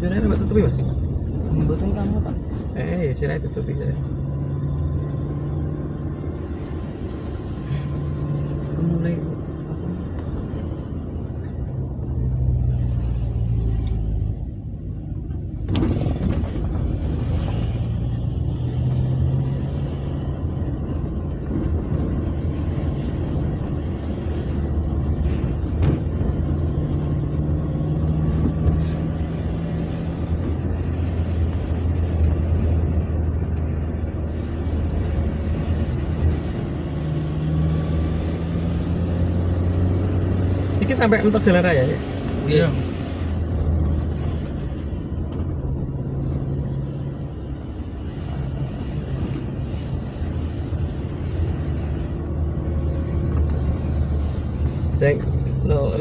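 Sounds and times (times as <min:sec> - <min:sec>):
ambulance engine hum: 0:00.0 - 0:56.0
road noise: 0:00.0 - 0:56.0.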